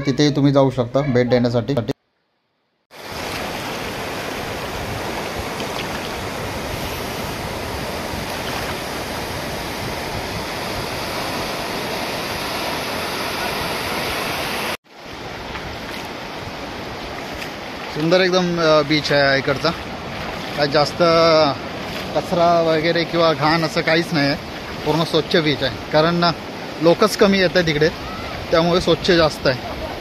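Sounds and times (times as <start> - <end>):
surf washing over beach: 2.9 - 30.0.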